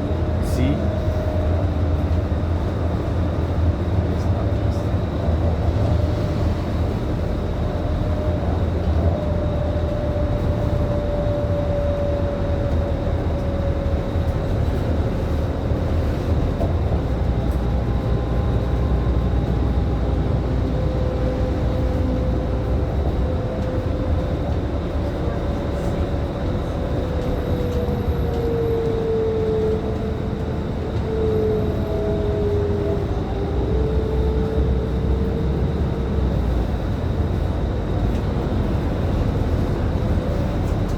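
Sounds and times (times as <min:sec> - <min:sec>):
bus engine rumble: 0:00.0 - 0:40.9.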